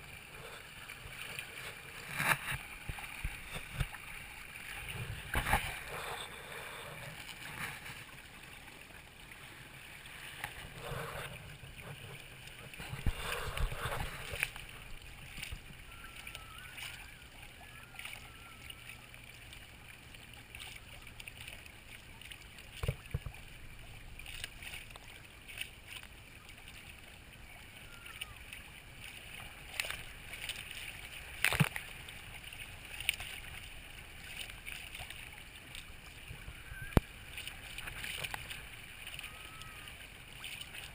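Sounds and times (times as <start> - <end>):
water rushing along hull: 0.0 - 40.9
water swishes: 0.0 - 40.9.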